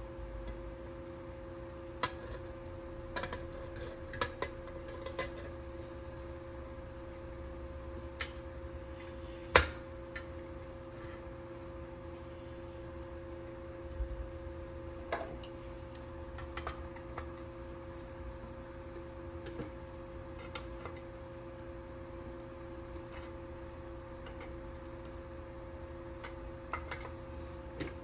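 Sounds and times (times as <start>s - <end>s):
steady two-tone hum: 0.0s - 28.0s.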